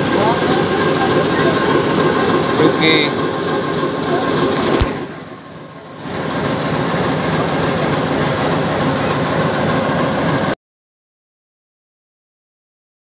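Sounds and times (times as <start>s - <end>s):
diesel locomotive engine running: 0.0s - 10.6s.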